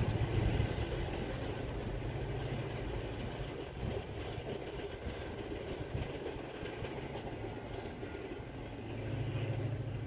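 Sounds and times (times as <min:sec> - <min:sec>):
train rail noise: 0:00.0 - 0:10.0
wheel clatter: 0:00.0 - 0:10.0.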